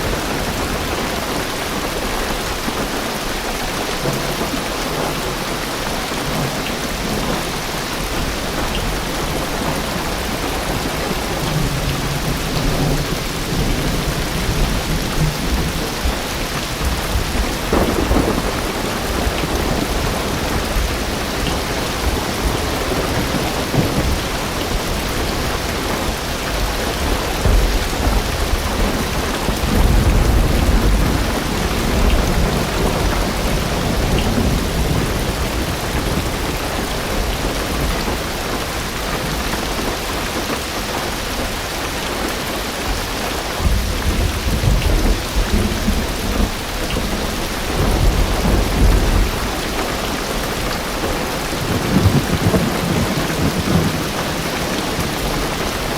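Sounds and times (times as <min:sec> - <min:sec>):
thunder rumbles: 0:00.0 - 0:40.2, 0:42.2 - 0:55.9
rain drumming on car roof: 0:00.0 - 0:55.9.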